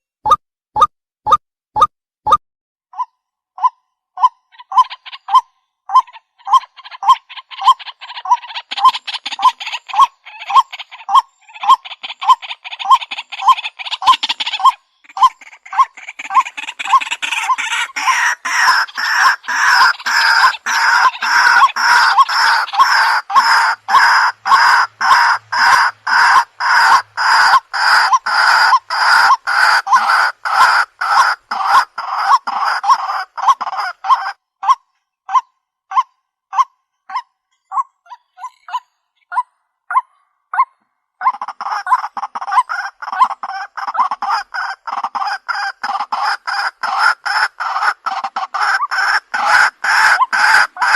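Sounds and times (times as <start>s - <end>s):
harsh repeated bird calls: 3.0s - 50.9s.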